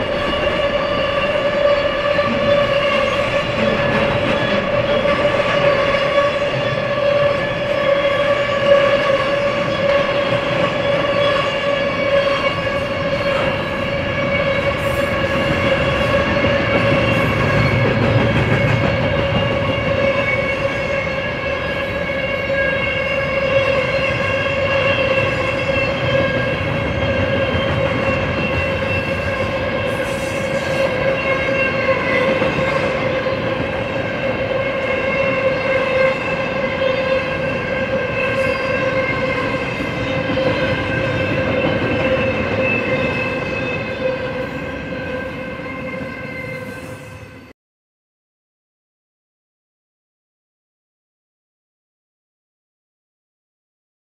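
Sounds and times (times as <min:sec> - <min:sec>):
high-pitched wheel squeal: 0:00.0 - 0:47.5
train rumbling past: 0:00.0 - 0:47.5.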